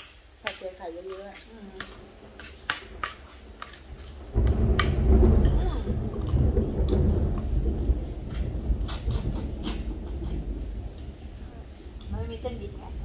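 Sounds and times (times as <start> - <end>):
thunder rumbling: 1.4 - 13.0.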